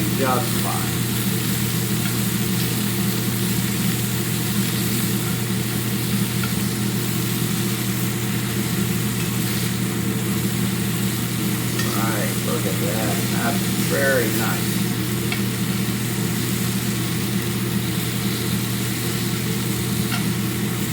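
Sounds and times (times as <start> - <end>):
chicken sizzling in a pan: 0.0 - 20.9
low mechanical hum: 0.0 - 20.9.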